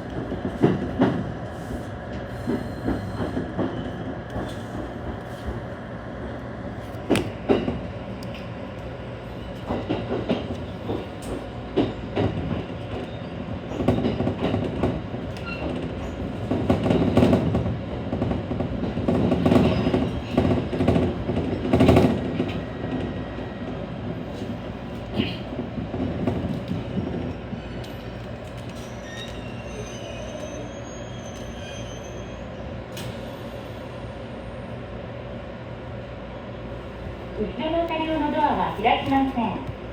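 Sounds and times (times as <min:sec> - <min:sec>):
electric train rumbling: 0:00.0 - 0:39.9.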